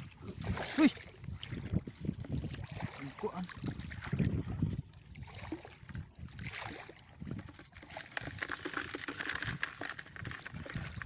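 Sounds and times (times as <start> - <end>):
shallow water splashing and trickling: 0.0 - 11.0.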